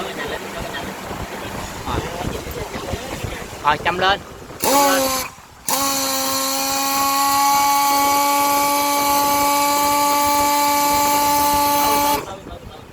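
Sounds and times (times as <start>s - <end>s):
electric pump whining: 0.0s - 12.5s.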